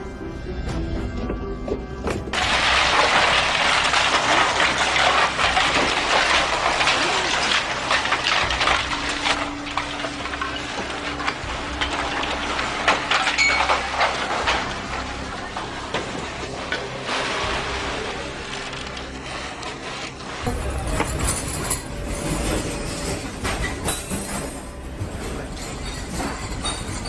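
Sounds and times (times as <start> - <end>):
roof tiles and rubble clattering: 1.1 - 27.0.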